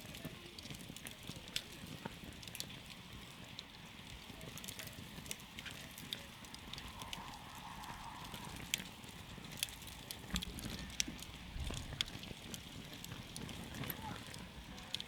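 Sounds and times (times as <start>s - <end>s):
campfire flame rushing: 0.0s - 15.0s
fire crackling and popping: 0.0s - 15.0s.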